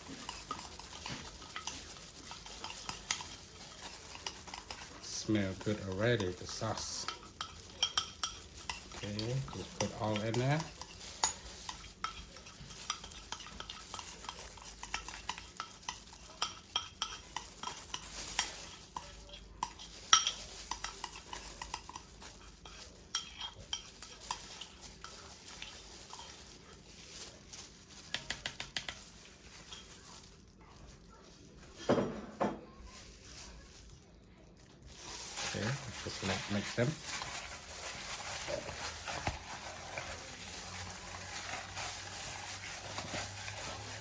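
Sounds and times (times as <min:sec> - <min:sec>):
spoon scraping a bowl: 0:00.0 - 0:26.8, 0:35.3 - 0:44.0
wet sticky stirring: 0:00.0 - 0:30.9, 0:33.0 - 0:44.0.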